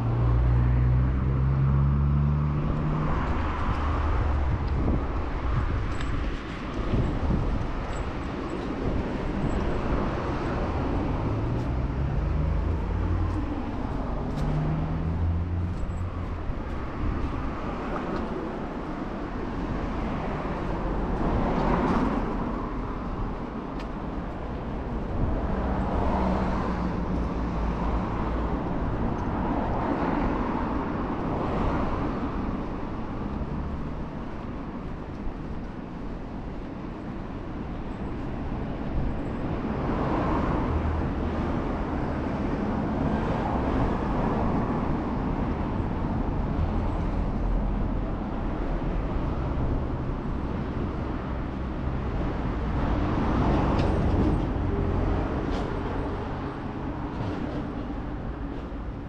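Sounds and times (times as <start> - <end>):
cars passing: 0.0 - 59.0.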